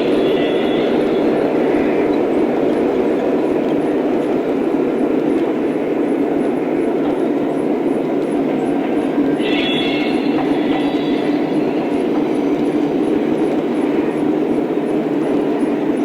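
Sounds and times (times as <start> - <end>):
model train rumbling: 0.0 - 16.0.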